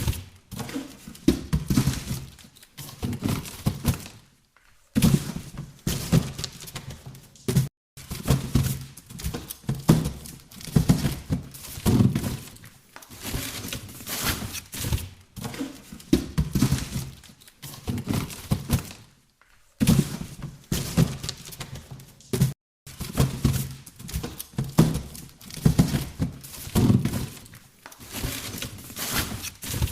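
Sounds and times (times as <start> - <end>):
boxes scraping and rustling: 0.0 - 19.1, 19.8 - 29.9
boxes thunking and knocking: 0.0 - 29.9.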